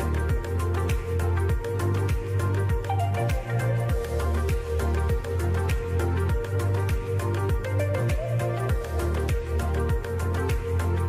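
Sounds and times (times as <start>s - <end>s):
deep kick drum: 0.0s - 10.7s
background music with steady beat: 0.0s - 11.0s.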